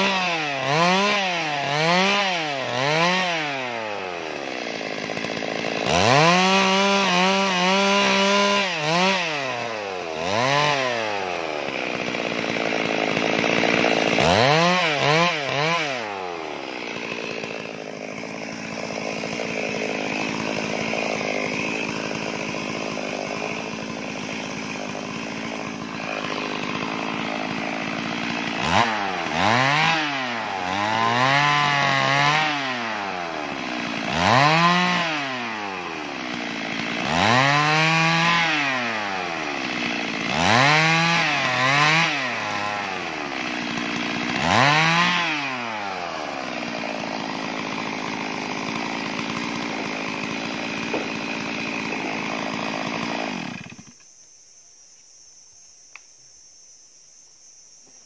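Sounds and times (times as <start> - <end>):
chainsaw cutting wood revving: 0.0 - 54.2.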